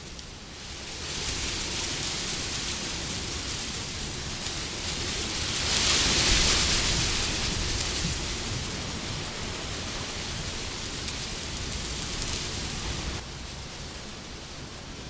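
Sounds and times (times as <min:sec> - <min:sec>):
wind blowing: 0:00.1 - 0:15.0.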